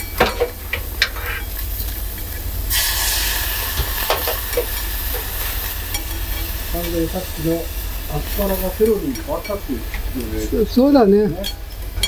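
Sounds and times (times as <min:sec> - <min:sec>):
steam hissing: 0:00.0 - 0:11.4
food sizzling in a pan: 0:00.0 - 0:12.0.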